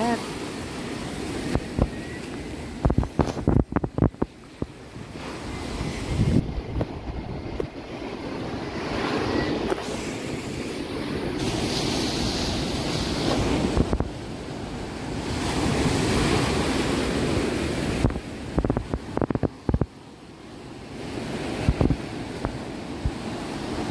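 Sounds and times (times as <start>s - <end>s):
wind buffeting microphone: 0.0s - 20.0s, 20.8s - 23.9s
surf breaking on rocky shore: 0.0s - 23.9s.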